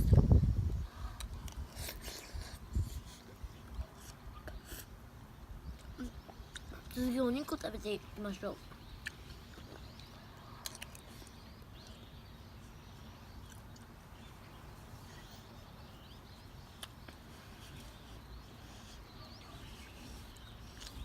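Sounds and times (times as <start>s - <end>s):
faint bird chirps: 0.8s - 21.0s.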